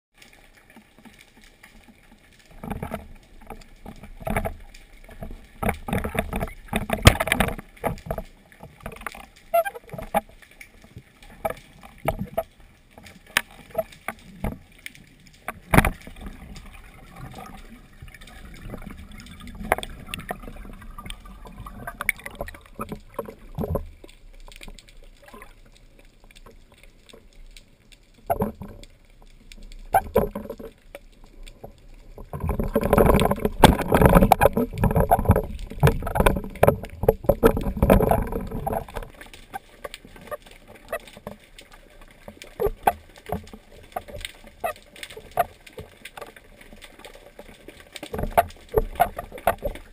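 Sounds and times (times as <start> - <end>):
water swishing: 0.1 - 49.9
muffled underwater knocks and clicks: 0.7 - 49.9.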